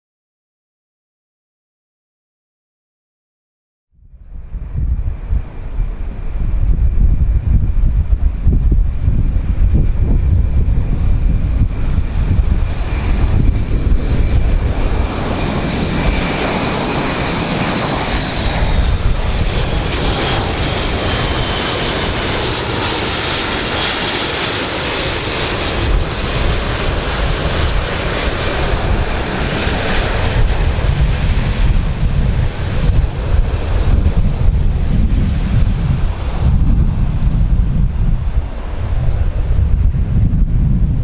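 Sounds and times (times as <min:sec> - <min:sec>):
jet engines rumbling and whining: 0:04.0 - 0:41.0.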